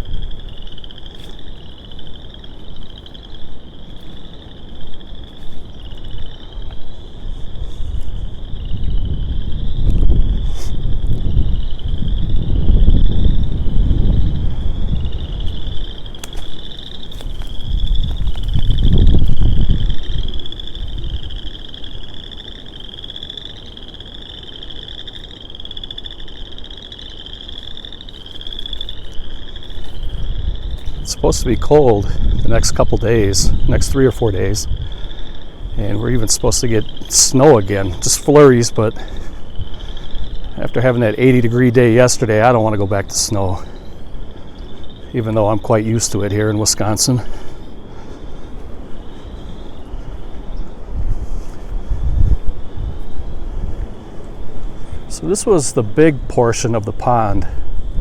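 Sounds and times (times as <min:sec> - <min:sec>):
frogs trilling: 0:00.0 - 0:58.0
wind rumble on microphone: 0:00.0 - 0:58.0.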